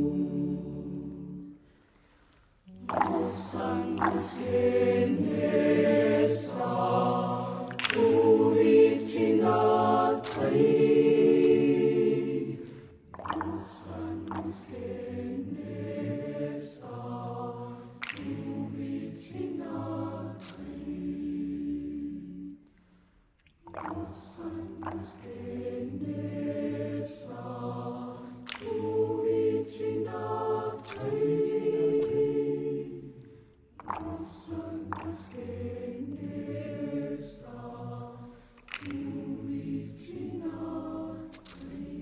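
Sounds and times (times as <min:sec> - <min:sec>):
choir singing: 0:00.0 - 0:01.6, 0:02.7 - 0:22.6, 0:23.9 - 0:33.3, 0:33.9 - 0:42.0.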